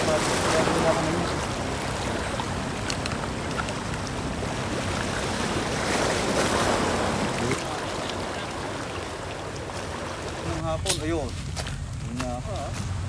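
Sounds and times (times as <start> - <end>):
water washing against rocks: 0.0 - 11.6
low steady hum: 0.0 - 13.0.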